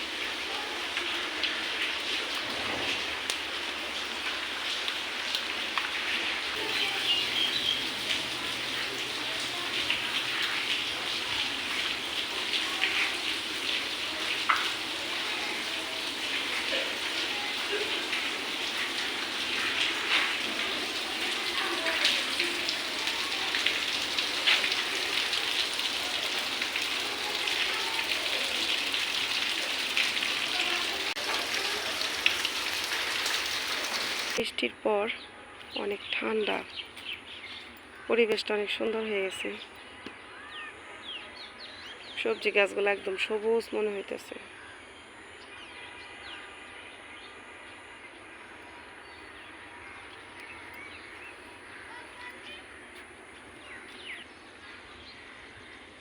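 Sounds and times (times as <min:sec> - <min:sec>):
steady rain falling: 0:00.0 - 0:34.4, 0:45.2 - 0:56.0
outdoor background noise: 0:00.0 - 0:56.0
birds chirping: 0:05.6 - 0:56.0.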